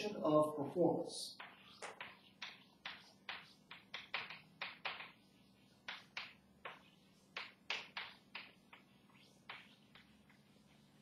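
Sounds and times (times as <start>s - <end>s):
chalk writing on blackboard: 1.3s - 11.0s.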